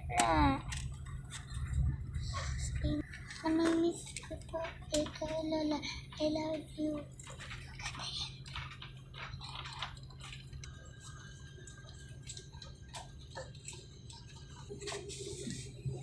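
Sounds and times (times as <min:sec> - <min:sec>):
airliner cabin hum: 0:00.0 - 0:16.0
small clicks and taps: 0:00.1 - 0:01.8, 0:02.8 - 0:15.0.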